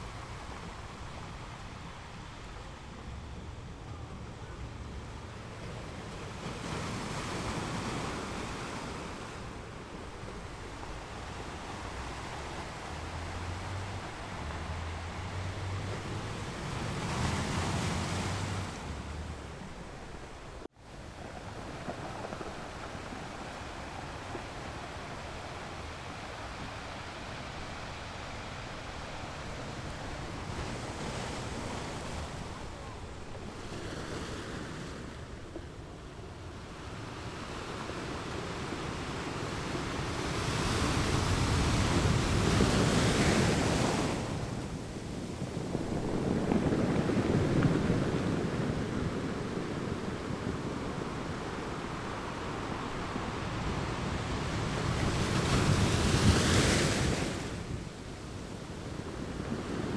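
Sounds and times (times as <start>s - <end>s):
ocean waves breaking on shore: 0.0s - 59.9s
wind on microphone: 4.7s - 59.9s.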